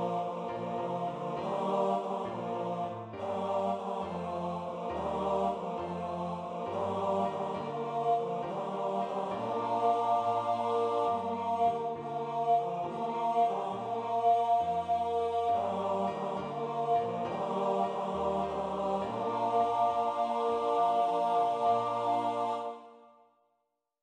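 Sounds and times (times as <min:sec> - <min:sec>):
choir singing in harmony: 0:00.0 - 0:23.2.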